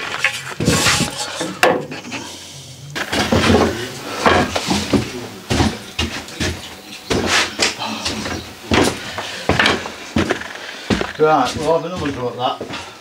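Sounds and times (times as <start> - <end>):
tools and timber clattering: 0.0 - 2.2, 3.0 - 12.9.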